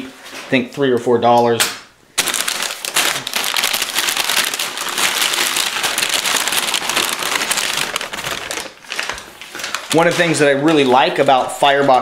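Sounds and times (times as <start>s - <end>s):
packing paper crumpling: 2.2s - 12.0s.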